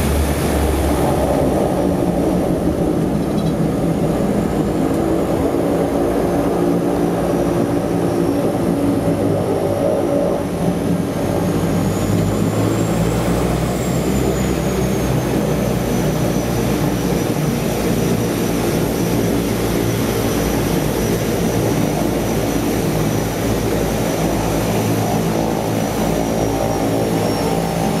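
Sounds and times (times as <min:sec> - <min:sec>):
propeller engines running: 0:00.0 - 0:28.0.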